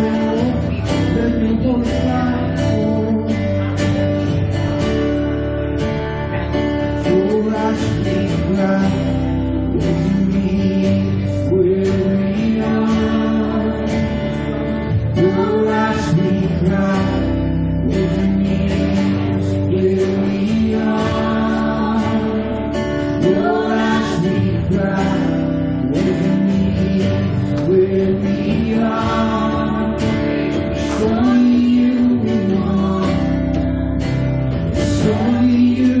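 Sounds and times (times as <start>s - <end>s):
man singing: 0.0s - 4.3s, 6.4s - 36.0s
band backing: 0.0s - 36.0s
strummed acoustic guitar: 0.0s - 36.0s.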